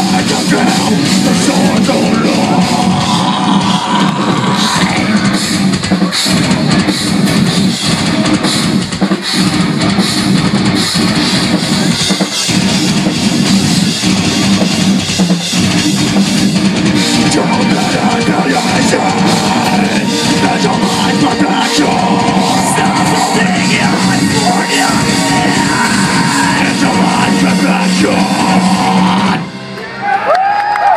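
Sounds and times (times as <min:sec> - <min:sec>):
drum kit: 0:00.0 - 0:30.4
electric guitars: 0:00.0 - 0:30.9
keyboards: 0:00.0 - 0:30.9.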